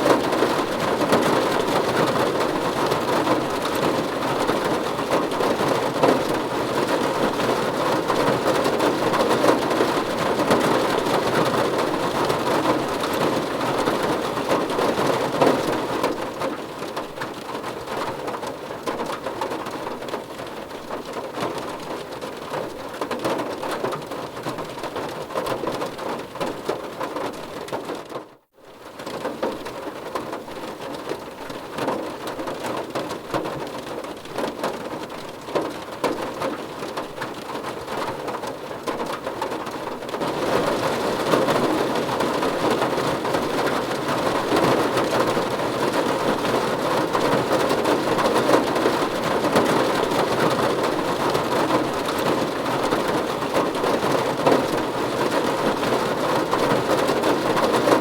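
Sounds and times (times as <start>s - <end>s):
rain on car roof: 0.0s - 58.0s.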